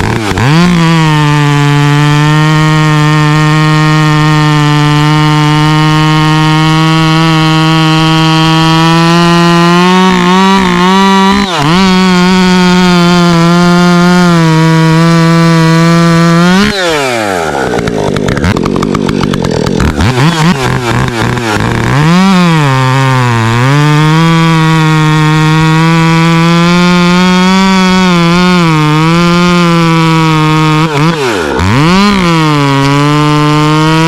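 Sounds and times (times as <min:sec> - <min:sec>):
chainsaw revving and idling: 0:00.0 - 0:34.0.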